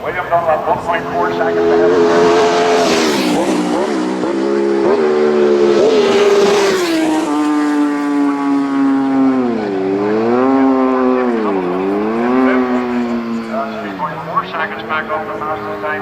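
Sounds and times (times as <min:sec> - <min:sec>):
motorcycle engines at high revs: 0:00.2 - 0:16.0.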